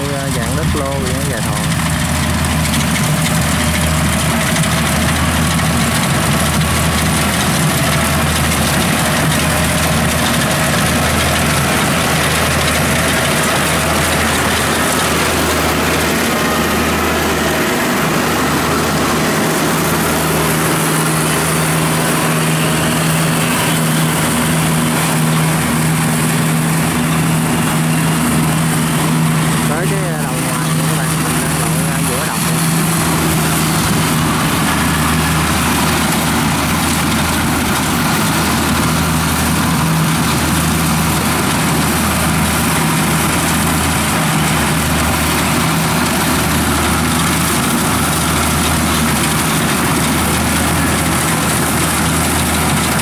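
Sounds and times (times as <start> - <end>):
diesel engine drone: 0.0 - 53.0
machinery noise: 0.0 - 53.0.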